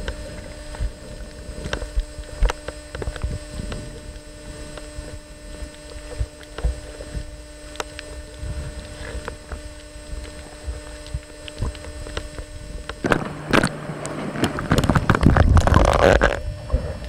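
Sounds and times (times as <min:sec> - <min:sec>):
low thumps of water and bubbles: 0:00.0 - 0:17.0
steady underwater hum: 0:00.0 - 0:17.0
underwater water noise: 0:00.0 - 0:17.0.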